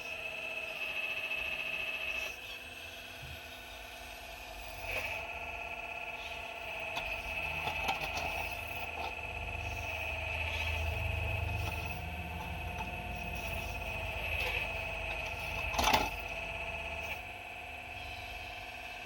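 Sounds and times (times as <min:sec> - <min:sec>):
excavator motor whine: 0:00.0 - 0:19.0.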